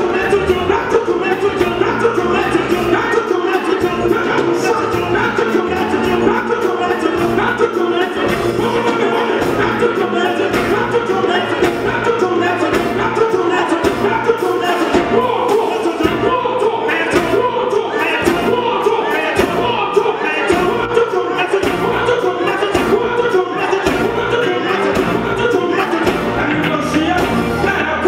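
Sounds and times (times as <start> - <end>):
backing singers: 0.0 - 28.0
gospel band playing: 0.0 - 28.0
man singing lead vocals: 0.0 - 28.0.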